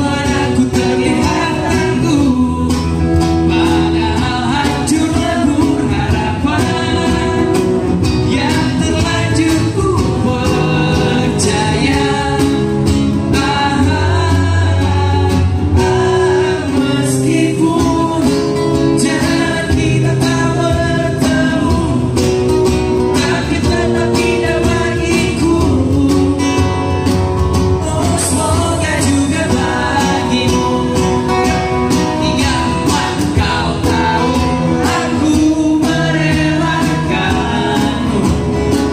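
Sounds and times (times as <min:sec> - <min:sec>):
acoustic guitars: 0:00.0 - 0:38.9
cajon beat: 0:00.0 - 0:38.9
man singing into a microphone: 0:00.0 - 0:38.9.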